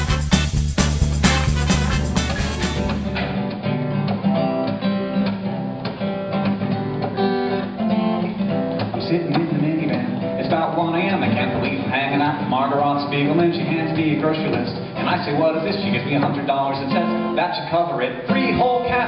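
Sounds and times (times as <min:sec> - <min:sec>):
acoustic guitar strumming: 0:00.0 - 0:19.0
recorded music track: 0:00.0 - 0:19.0.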